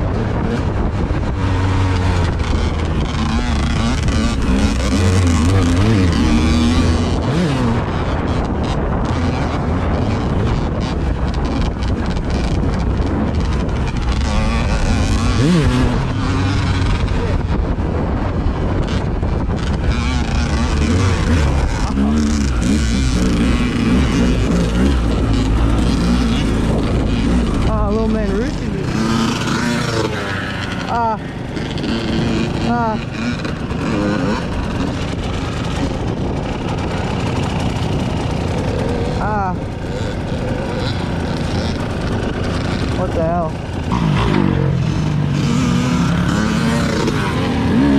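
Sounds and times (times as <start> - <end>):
vehicle low rumble: 0.0 - 47.9
wind buffeting microphone: 0.0 - 47.9.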